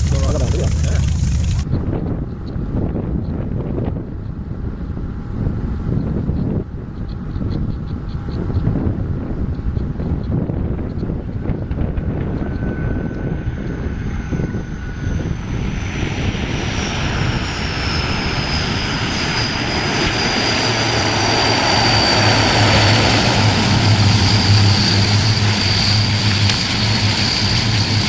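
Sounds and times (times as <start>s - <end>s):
aircraft engine drone: 0.0s - 28.0s
aircraft engine whine: 0.0s - 28.0s.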